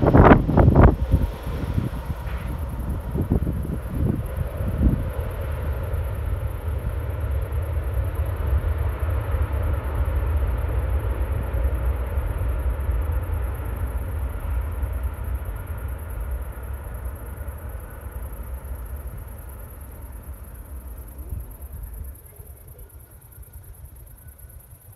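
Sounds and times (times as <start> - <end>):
jet engines rumbling: 0.0 - 24.9.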